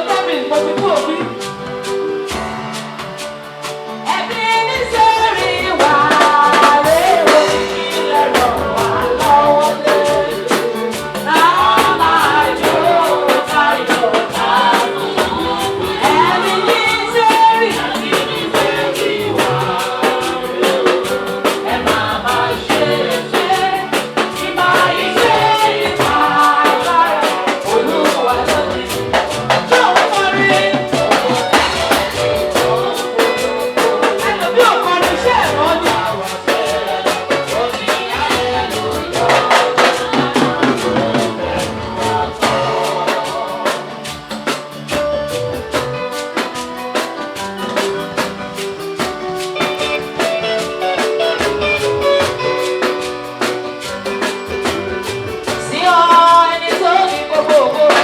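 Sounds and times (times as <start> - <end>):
drum kit beat: 0.0 - 58.0
people singing: 0.0 - 58.0.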